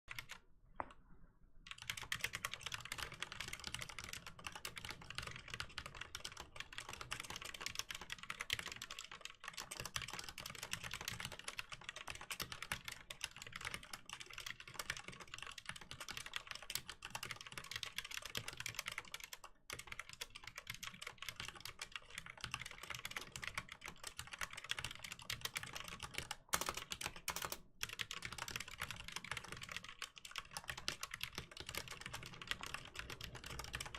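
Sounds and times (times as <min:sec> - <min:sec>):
fast mechanical keyboard typing: 0:00.1 - 0:00.4, 0:01.7 - 0:33.9.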